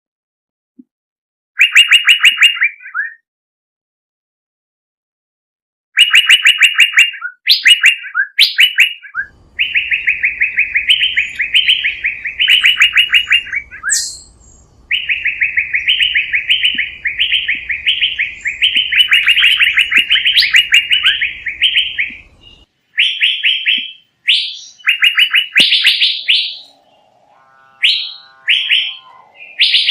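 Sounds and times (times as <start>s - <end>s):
songbird trilling and whistling: 1.6s - 3.2s, 6.0s - 29.9s.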